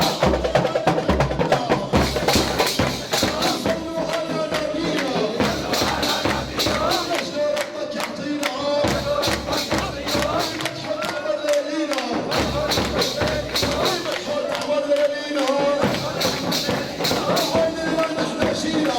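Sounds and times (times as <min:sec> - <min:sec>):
music with percussive beat: 0:00.0 - 0:18.9.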